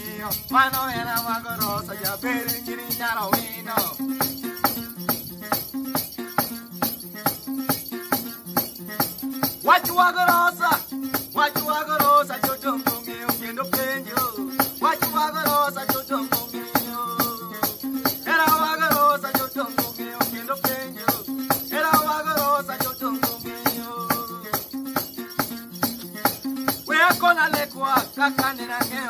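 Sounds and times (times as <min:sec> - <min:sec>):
man singing: 0:00.0 - 0:04.7, 0:09.3 - 0:25.0, 0:25.8 - 0:29.0
fast percussive beat: 0:00.0 - 0:29.0.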